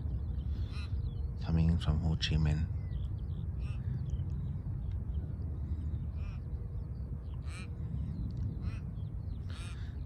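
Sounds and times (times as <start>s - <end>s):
bird calls and chirps: 0.0s - 10.0s
steady low rumble: 0.0s - 10.0s.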